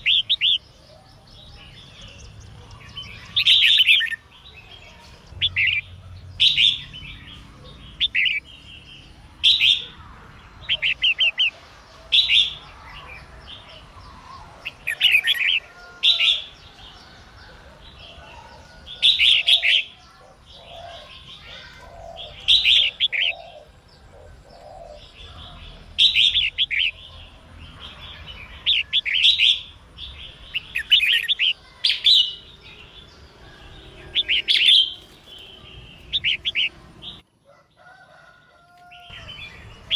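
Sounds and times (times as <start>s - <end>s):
bulbul chirping song: 0.0s - 37.3s.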